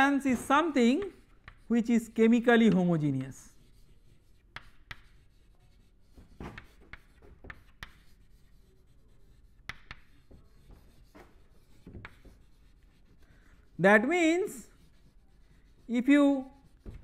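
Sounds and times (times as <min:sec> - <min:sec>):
chalk writing on chalkboard: 0:00.0 - 0:17.0.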